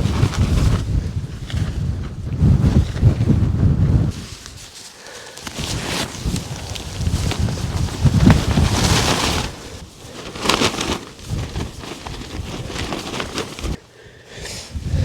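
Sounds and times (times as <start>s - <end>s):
wind gusting on microphone: 0.0s - 4.7s, 5.4s - 13.8s, 14.4s - 15.0s
tent knocks and rustles: 0.0s - 13.8s.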